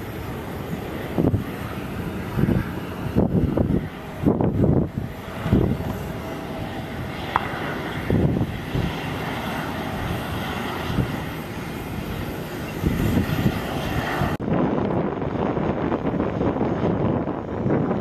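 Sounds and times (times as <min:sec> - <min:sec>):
jet engines on runway: 0:00.0 - 0:18.0
wind buffeting microphone: 0:00.0 - 0:18.0.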